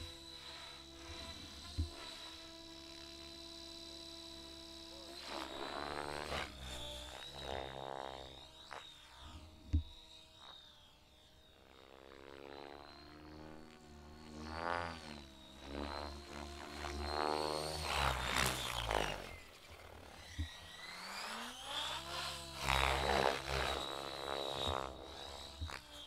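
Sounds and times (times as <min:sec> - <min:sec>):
model helicopter rotor: 0:00.0 - 0:26.0.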